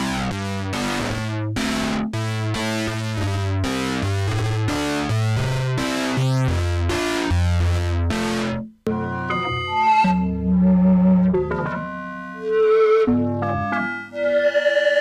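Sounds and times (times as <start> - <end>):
synthesizer bass sequence: 0.0 - 12.6.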